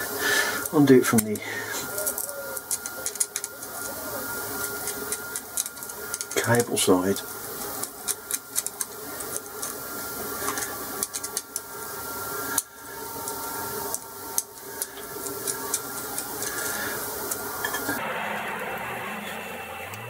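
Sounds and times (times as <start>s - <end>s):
steady background hum: 0.0s - 20.0s
wires and blocks handled: 0.6s - 11.7s, 12.5s - 18.0s.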